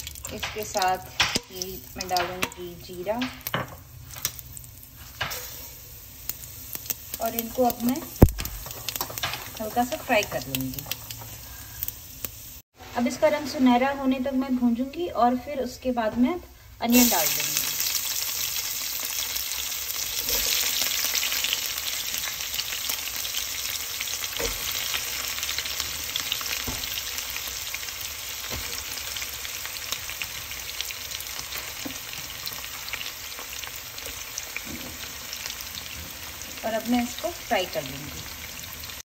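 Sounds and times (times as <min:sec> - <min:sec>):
onions sizzling in hot oil: 0:00.0 - 0:14.5, 0:16.8 - 0:39.0.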